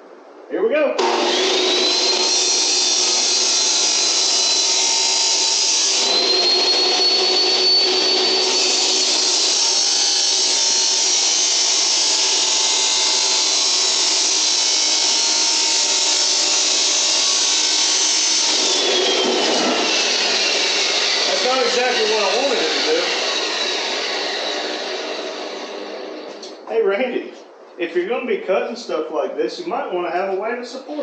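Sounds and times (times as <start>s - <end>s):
electric saw cutting steel pipe: 1.0s - 26.6s.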